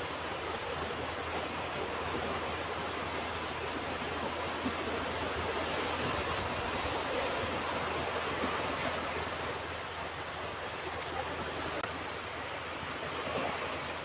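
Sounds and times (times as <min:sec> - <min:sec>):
ocean waves washing on beach: 0:00.0 - 0:14.0.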